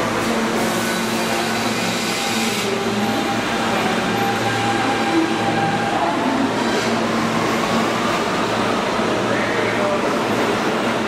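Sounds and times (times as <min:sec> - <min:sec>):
subway train running: 0:00.0 - 0:11.0.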